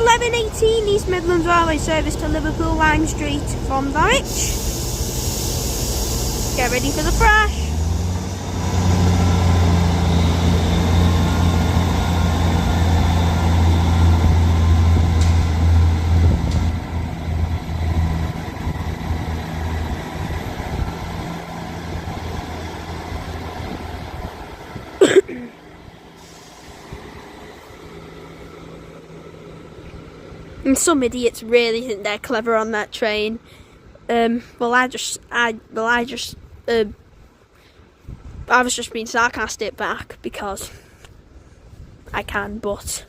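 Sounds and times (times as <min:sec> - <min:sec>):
diesel train engines droning: 0:00.0 - 0:42.4.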